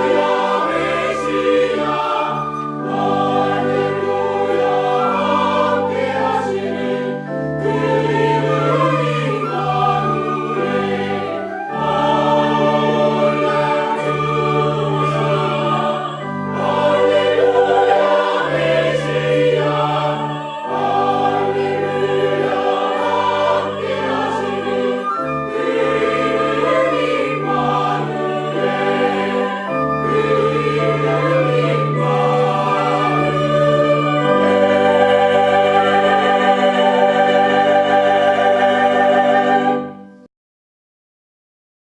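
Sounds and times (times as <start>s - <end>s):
church choir singing: 0.0s - 40.1s.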